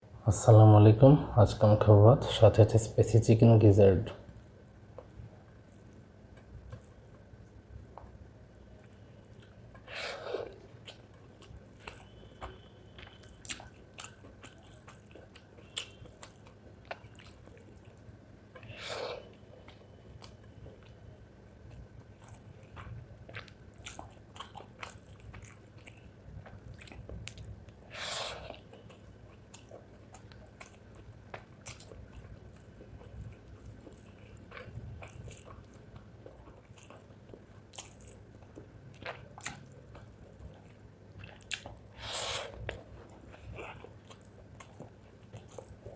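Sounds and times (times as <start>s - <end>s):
close chewing and crunching: 8.8s - 45.9s.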